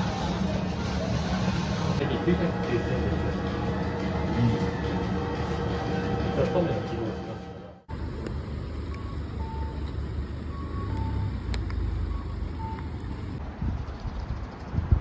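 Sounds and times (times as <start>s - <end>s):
low machine rumble: 0.0s - 14.5s.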